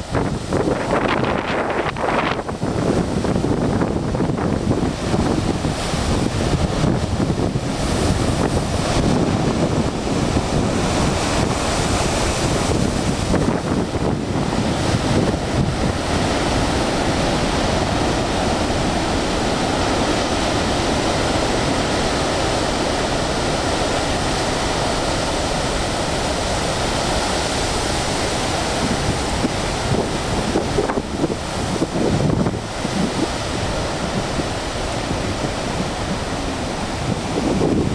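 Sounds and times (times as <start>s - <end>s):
ocean surf breaking on rocks: 0.0s - 37.9s
wind buffeting microphone: 0.0s - 37.9s.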